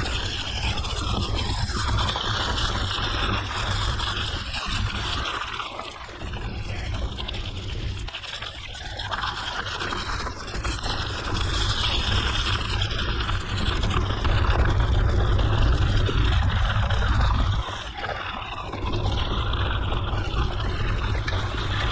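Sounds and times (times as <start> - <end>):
wind rumbling on microphone: 0.0 - 21.9.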